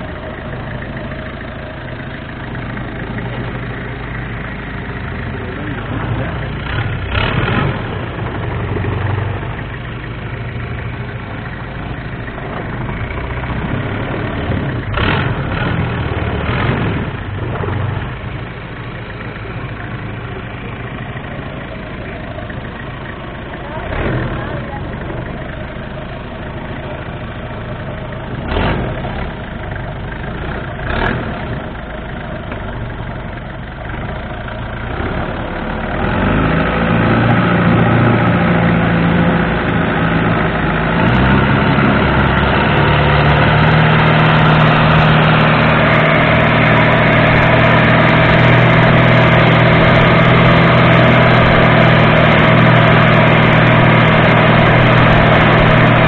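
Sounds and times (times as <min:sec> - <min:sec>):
boat diesel engine: 0:00.0 - 0:56.0
engine knocks: 0:00.0 - 0:56.0.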